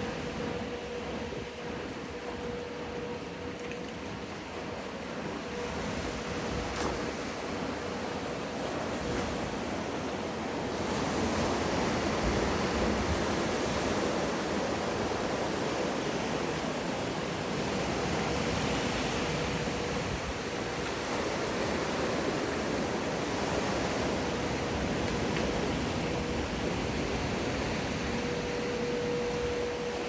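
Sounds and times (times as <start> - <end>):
rushing wave water: 5.2 - 30.0.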